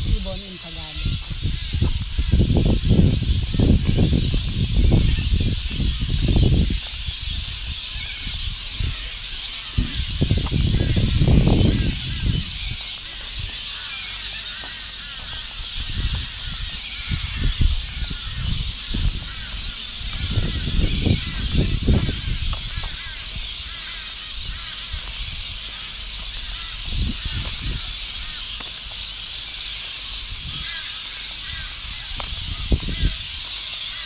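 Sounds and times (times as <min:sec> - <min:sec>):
birds chirping and honking: 0:00.0 - 0:34.0
wind buffeting microphone: 0:00.0 - 0:34.0.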